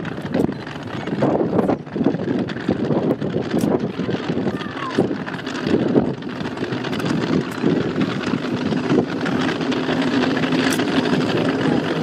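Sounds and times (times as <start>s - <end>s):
firework fountains crackling: 0.0s - 12.0s
wind on microphone: 0.0s - 12.0s.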